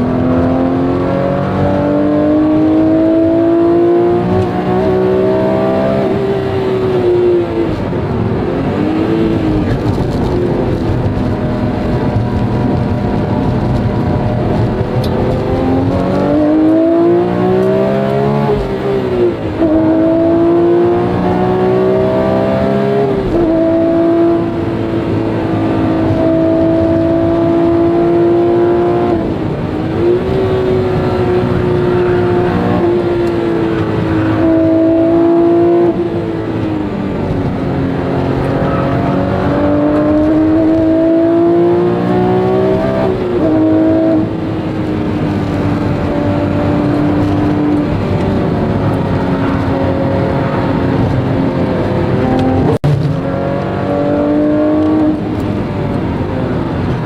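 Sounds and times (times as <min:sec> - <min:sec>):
car engine revving under throttle: 0:00.0 - 0:57.0.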